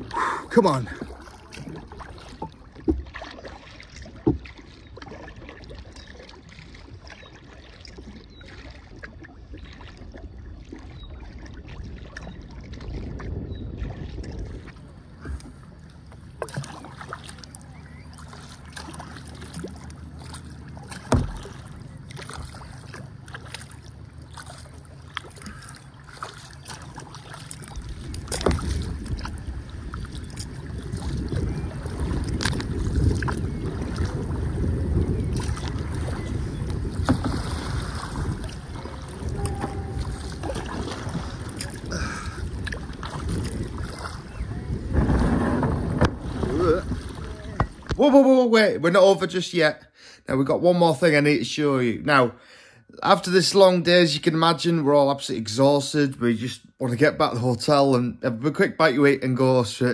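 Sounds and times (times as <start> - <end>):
paddle splashing in water: 0.0 - 49.0
water washing along hull: 0.0 - 52.3.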